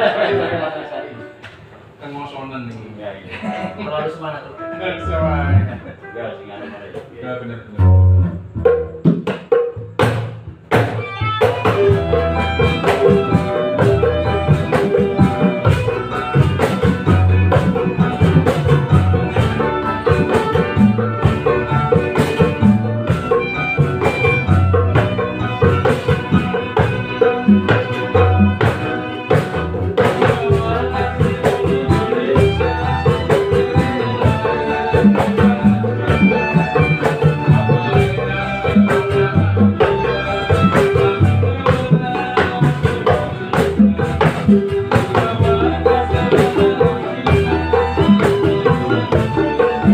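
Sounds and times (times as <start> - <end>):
band playing with steady beat: 3.3 - 49.9
hand drum strikes: 8.5 - 49.9.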